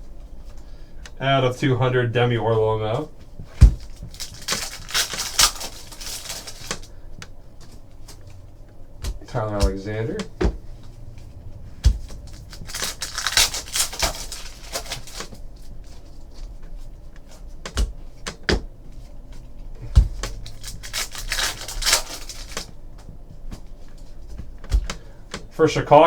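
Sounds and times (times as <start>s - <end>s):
cards rustling and sliding: 3.5s - 25.5s.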